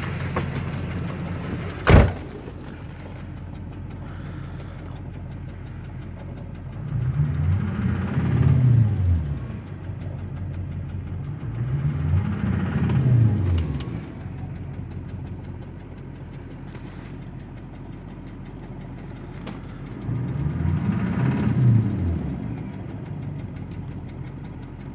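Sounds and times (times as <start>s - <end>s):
diesel engine revving: 0.0s - 24.9s.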